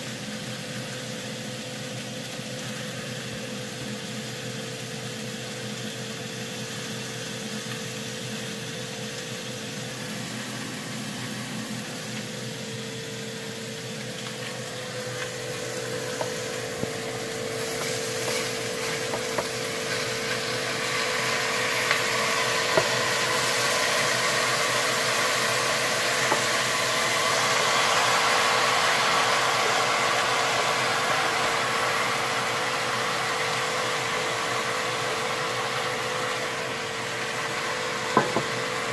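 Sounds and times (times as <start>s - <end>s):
vegetables sizzling in a frying pan: 0.0s - 38.9s
steady hum: 2.3s - 38.9s.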